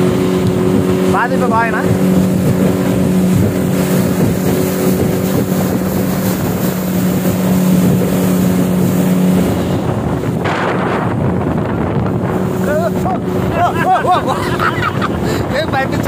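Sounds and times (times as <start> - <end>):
outboard motor drone: 0.0 - 16.0
water rushing: 0.0 - 16.0
wind noise: 0.0 - 16.0.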